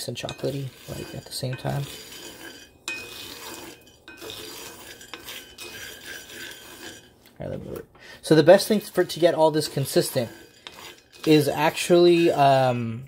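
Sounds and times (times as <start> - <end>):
beans rattling and scraping in skillet: 0.0 - 7.2, 8.2 - 12.8.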